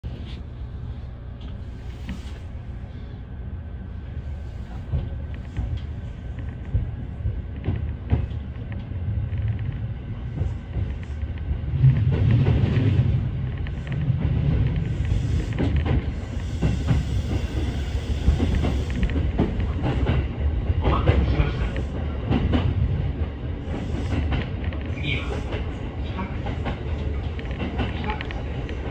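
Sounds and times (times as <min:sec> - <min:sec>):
train rumble: 0:00.0 - 0:28.9.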